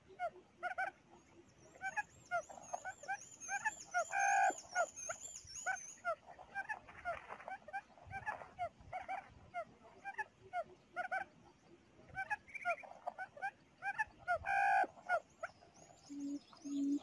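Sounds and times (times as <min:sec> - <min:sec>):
quail chirping calls: 0:00.0 - 0:11.4, 0:12.0 - 0:17.0.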